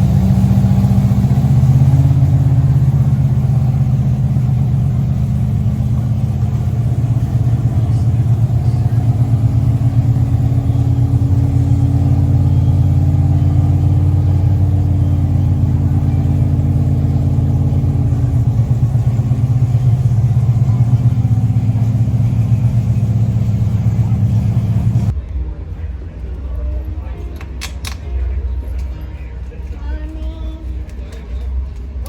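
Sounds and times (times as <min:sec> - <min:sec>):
vehicle engine droning: 0:00.0 - 0:27.2.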